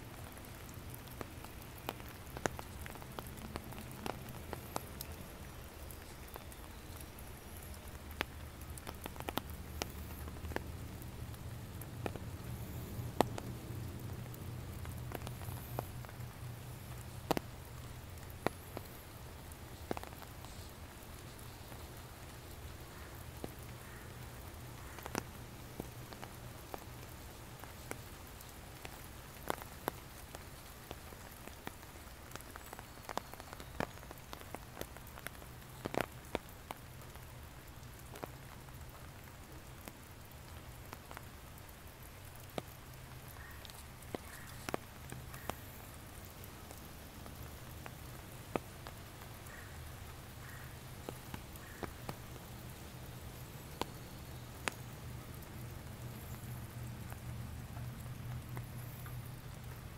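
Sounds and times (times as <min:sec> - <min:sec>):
rain falling on foliage: 0:00.0 - 0:59.9
sharp raindrops landing close: 0:00.0 - 0:59.9.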